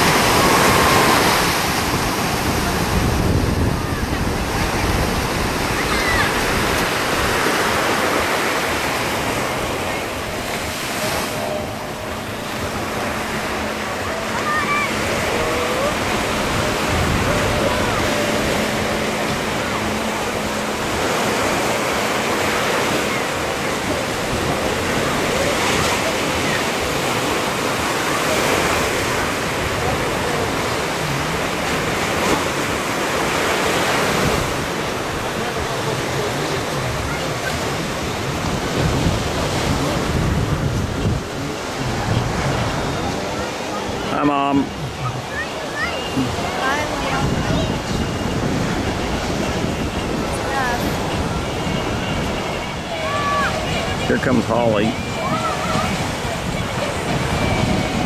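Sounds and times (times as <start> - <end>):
waves breaking on a beach: 0.0 - 58.0
wind buffeting microphone: 0.0 - 58.0.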